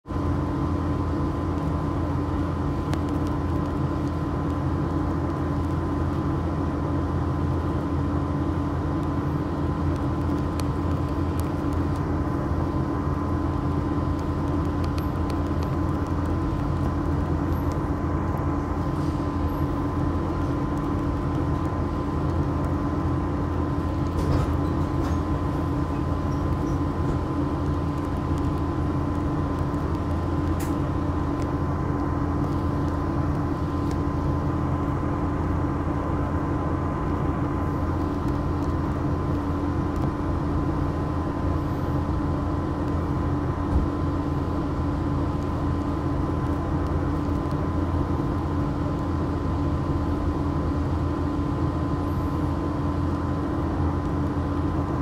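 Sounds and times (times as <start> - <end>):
bus diesel engine running: 0.0 - 55.0
faint steady whine: 0.1 - 55.0.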